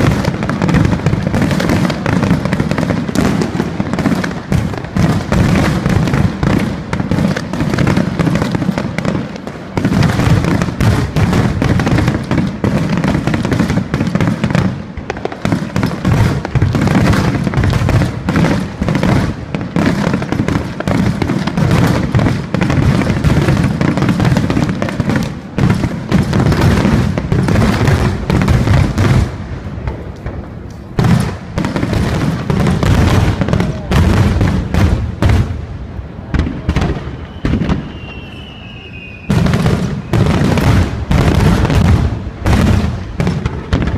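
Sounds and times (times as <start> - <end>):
firework shells booming and crackling: 0.0 - 43.9.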